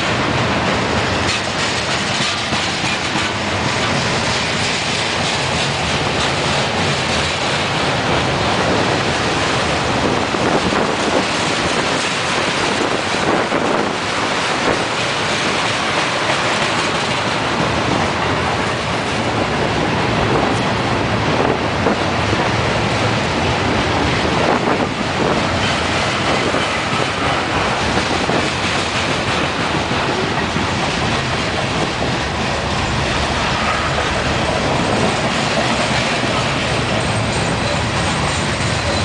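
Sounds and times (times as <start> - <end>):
freight train wheels clattering on rails: 0.0 - 39.0.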